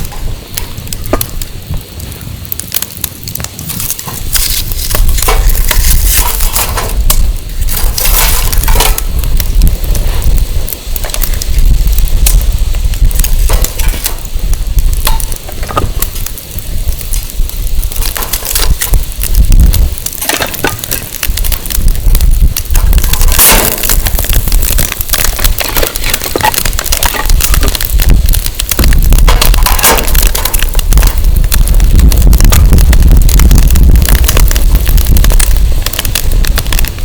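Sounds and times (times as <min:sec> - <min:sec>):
campfire crackling and popping: 0:00.0 - 0:37.0
wind rumble on microphone: 0:00.0 - 0:37.0.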